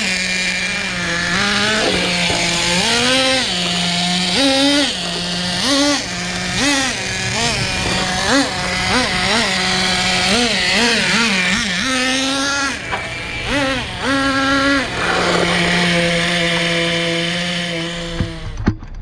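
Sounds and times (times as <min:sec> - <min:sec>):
nitro rc truck engine revving: 0:00.0 - 0:18.7.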